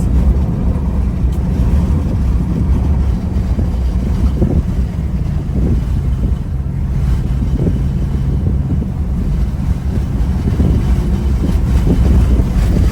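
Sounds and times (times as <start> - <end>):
moving vehicle rumble: 0.0 - 12.9
wind buffeting microphone: 0.0 - 12.9.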